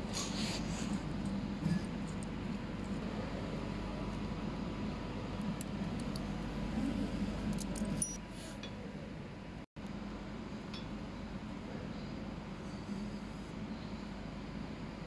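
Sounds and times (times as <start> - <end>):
workshop hum: 0.0 - 15.0.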